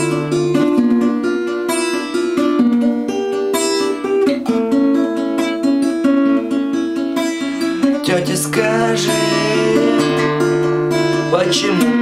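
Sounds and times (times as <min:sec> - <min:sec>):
fingerpicked acoustic guitar: 0:00.0 - 0:12.0.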